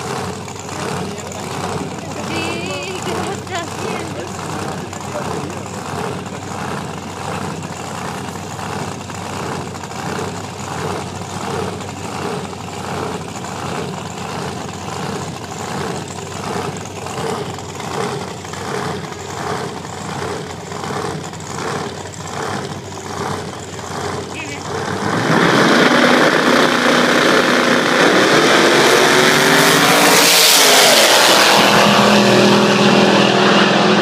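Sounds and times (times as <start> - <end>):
race car engine idling: 0.0 - 34.0.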